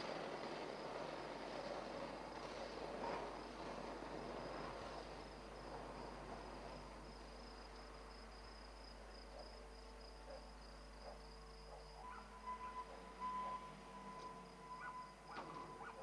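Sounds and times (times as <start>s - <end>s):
crickets chirping: 0.0s - 16.0s
faint steady hum: 0.0s - 16.0s.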